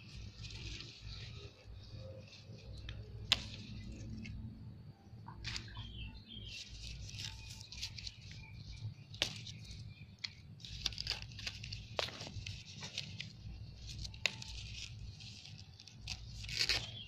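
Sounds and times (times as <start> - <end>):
leaves and twigs rustling and clicking: 0.0 - 4.6, 5.2 - 17.0.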